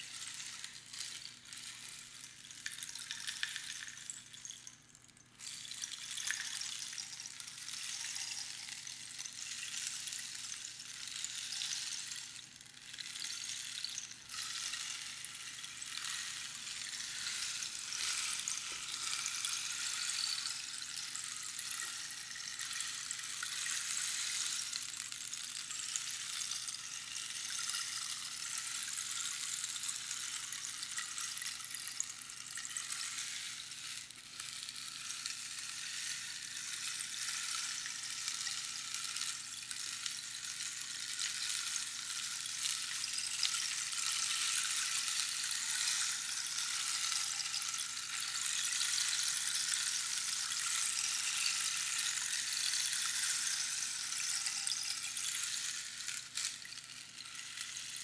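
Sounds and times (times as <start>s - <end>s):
rainstick pebbles pattering: 0.0s - 58.0s.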